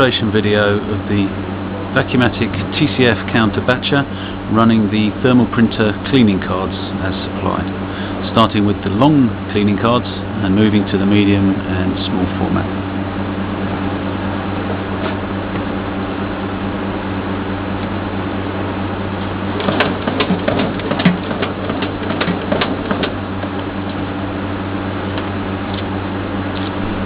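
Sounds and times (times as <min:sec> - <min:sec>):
motor hum: 0:00.0 - 0:27.0.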